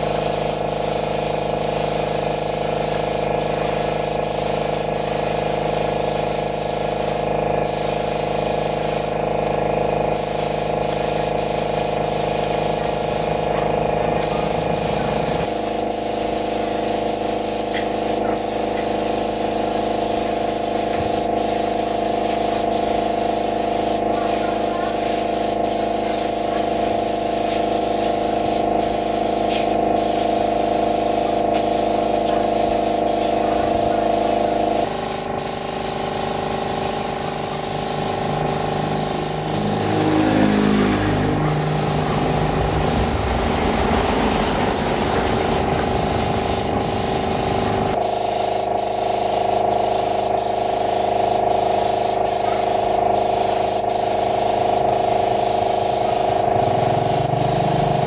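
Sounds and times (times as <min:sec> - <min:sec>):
hiss of spraying air: 0:00.0 - 0:09.3, 0:10.1 - 0:13.6, 0:14.2 - 0:40.1, 0:41.2 - 0:58.0
mechanical hum: 0:00.0 - 0:31.2, 0:33.6 - 0:51.9, 0:54.2 - 0:58.0.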